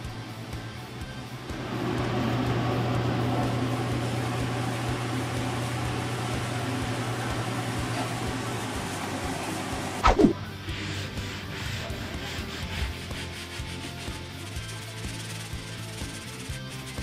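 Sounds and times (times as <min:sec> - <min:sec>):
fan humming: 0:00.0 - 0:16.7.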